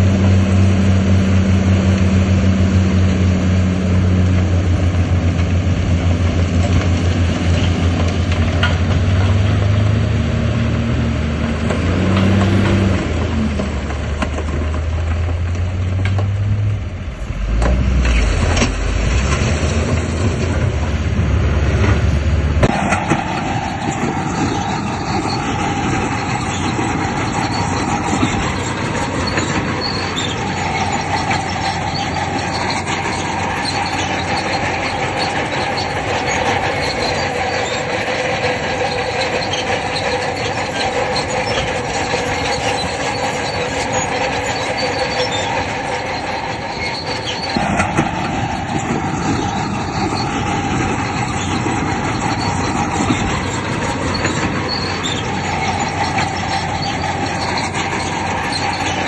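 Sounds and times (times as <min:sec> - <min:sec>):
diesel machinery engine drone: 0:00.0 - 0:59.0
metallic squealing and clatter: 0:00.0 - 0:59.0.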